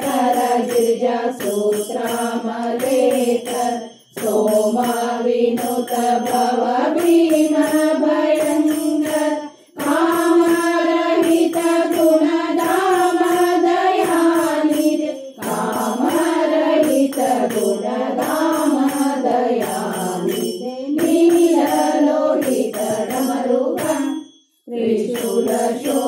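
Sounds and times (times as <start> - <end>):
devotional singing: 0.0 - 26.0
jingling hand percussion: 0.0 - 26.0.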